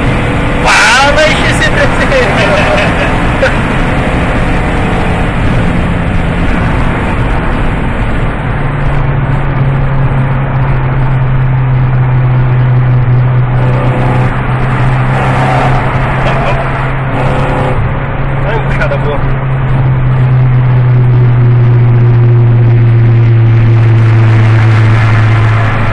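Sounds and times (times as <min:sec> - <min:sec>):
car engine deep rumble: 0:00.0 - 0:25.9
steady low drone: 0:00.0 - 0:25.9.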